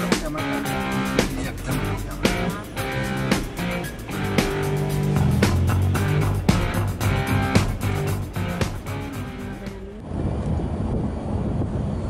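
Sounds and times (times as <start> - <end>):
background music with beat: 0.0 - 9.8.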